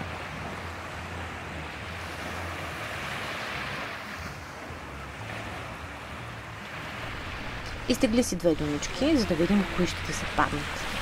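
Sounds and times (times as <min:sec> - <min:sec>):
surf washing on beach: 0:00.0 - 0:11.0.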